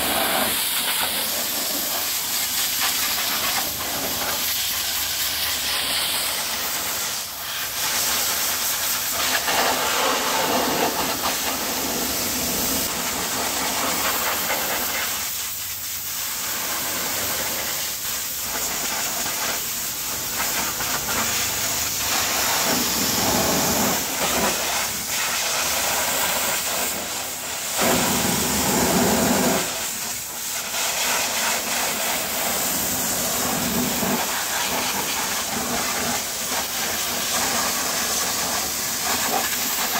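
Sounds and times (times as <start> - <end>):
pressure washer spraying car: 0.0 - 39.9.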